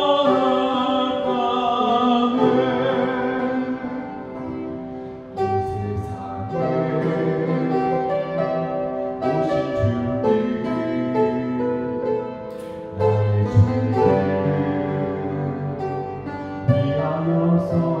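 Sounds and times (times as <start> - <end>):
piano playing slow hymn: 0.0 - 18.0.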